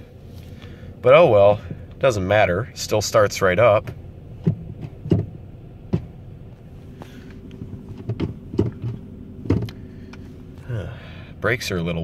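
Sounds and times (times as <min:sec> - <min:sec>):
car engine idling: 0:00.0 - 0:12.0
whining hum: 0:00.0 - 0:12.0.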